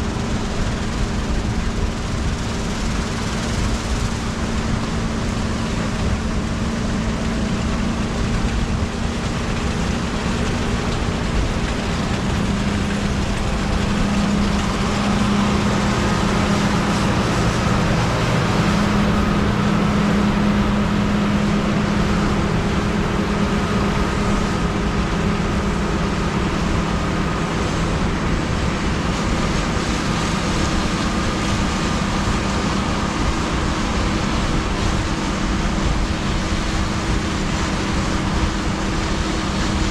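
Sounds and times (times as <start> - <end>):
harvest machinery drone: 0.0 - 39.9.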